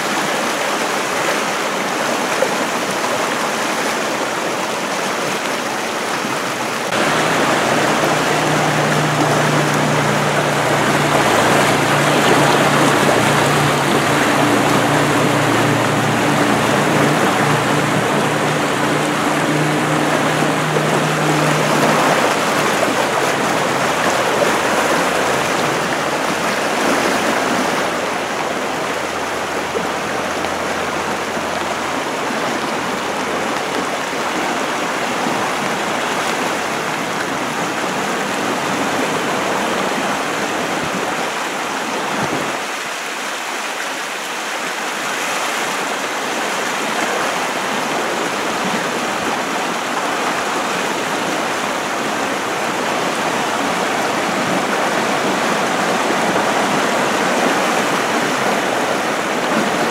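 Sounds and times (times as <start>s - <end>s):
river roaring: 0.0s - 59.9s.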